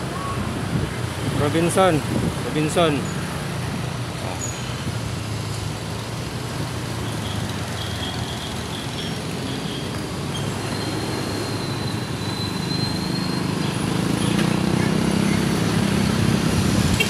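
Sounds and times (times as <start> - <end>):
engine hum and tyre rumble: 0.0 - 17.0
passing traffic: 0.0 - 17.0.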